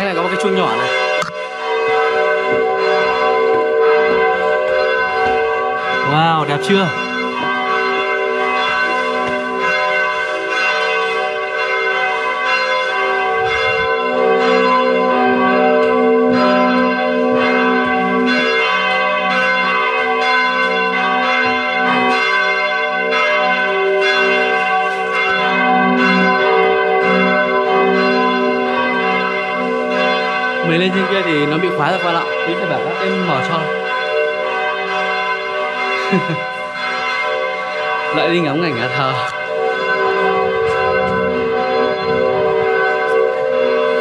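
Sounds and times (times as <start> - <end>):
church bells ringing: 0.0 - 44.0.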